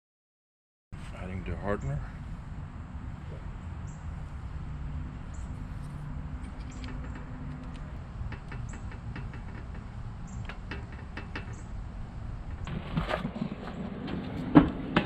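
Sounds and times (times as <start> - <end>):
low mechanical rumble: 1.0 - 15.0.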